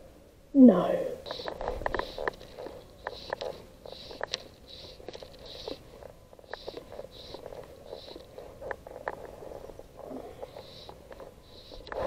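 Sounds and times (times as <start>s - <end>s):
fly line hissing through rod guides: 1.2s - 12.0s
rod and line handling clicks: 1.3s - 12.0s.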